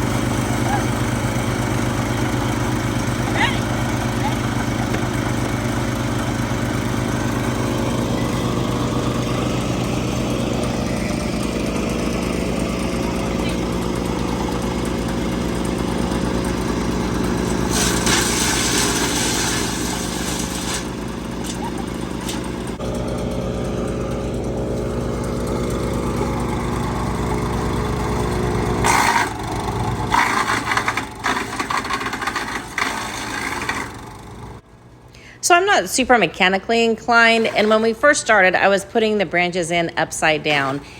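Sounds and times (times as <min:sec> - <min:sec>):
wood chipper engine running: 0:00.0 - 0:35.4, 0:36.0 - 0:40.9.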